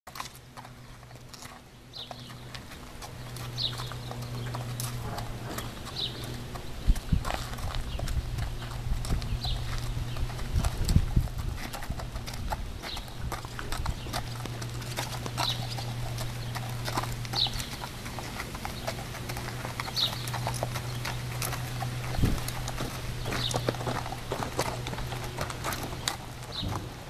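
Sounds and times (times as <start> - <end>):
horse hooves on gravel: 0.1 - 27.0.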